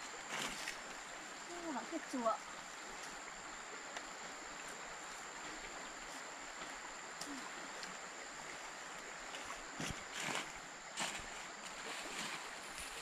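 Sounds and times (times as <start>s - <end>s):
forest stream rushing: 0.0s - 13.0s.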